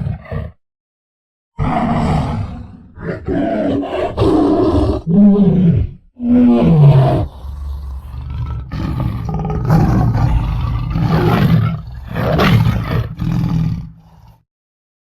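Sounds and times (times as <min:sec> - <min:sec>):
tiger roaring and growling: 0:00.0 - 0:00.6, 0:01.6 - 0:14.4.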